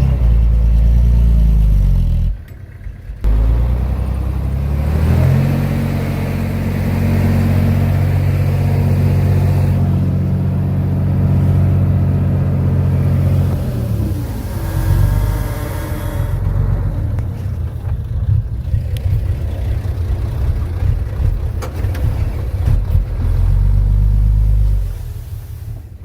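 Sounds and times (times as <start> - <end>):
diesel engine revving: 0.0 - 26.0.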